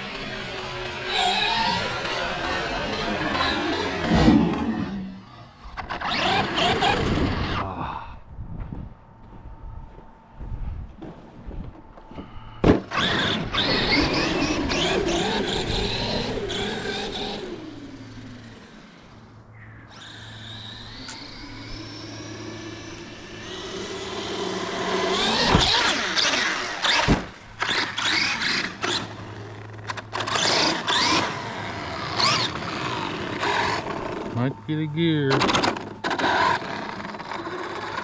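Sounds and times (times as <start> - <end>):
rc truck motor whining: 0.0 - 7.8, 12.6 - 38.0.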